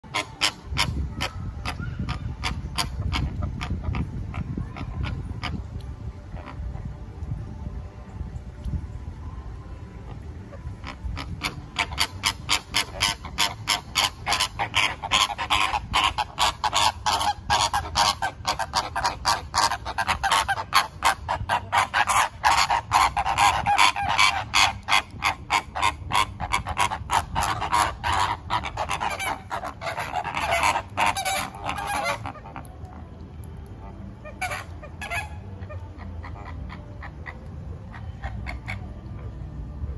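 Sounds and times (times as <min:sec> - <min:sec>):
flamingos honking: 0:00.0 - 0:07.0, 0:09.9 - 0:39.9.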